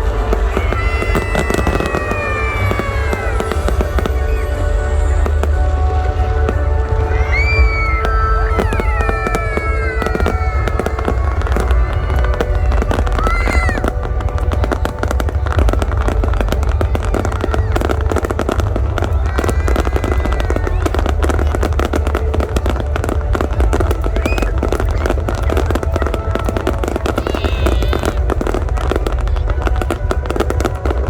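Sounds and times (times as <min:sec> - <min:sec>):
fireworks crackling and booming: 0:00.0 - 0:31.0
music: 0:00.0 - 0:31.0.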